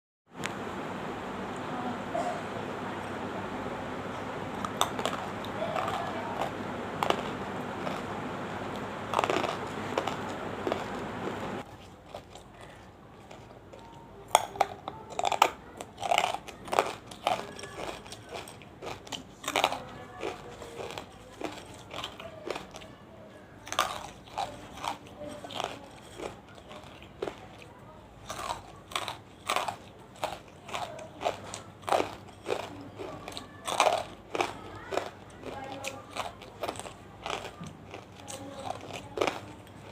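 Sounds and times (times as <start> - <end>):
crisp chewing crunches: 4.5 - 39.9.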